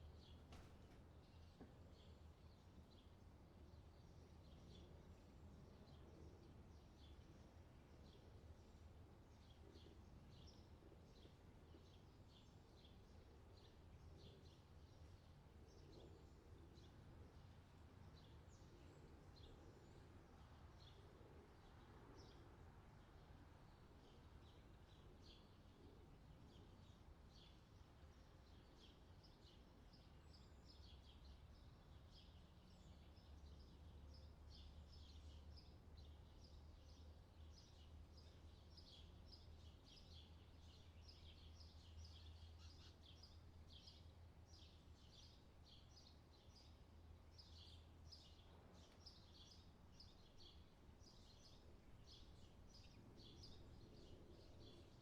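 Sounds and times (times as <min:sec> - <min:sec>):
small birds chirping: 0:06.8 - 0:55.0.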